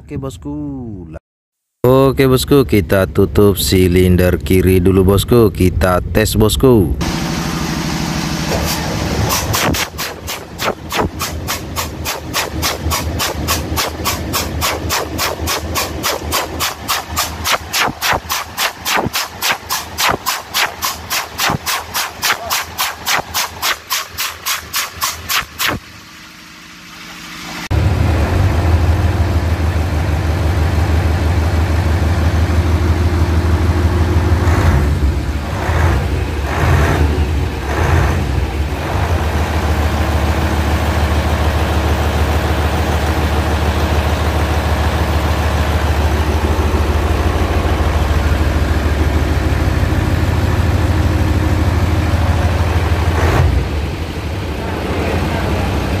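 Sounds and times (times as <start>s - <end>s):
diesel engine running: 2.3s - 56.0s
diesel engine cranking on starter: 7.0s - 56.0s.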